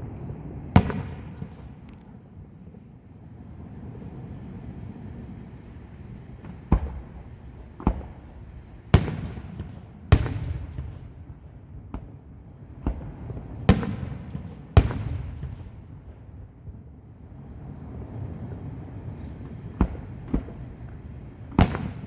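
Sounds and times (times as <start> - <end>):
firework crackle: 3.6 - 22.0.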